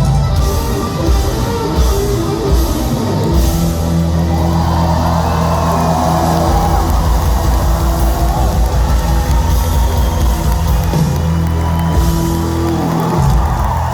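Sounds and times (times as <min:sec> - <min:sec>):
fast drum beat: 0:00.0 - 0:13.9
rock band playing loudly: 0:00.0 - 0:13.9.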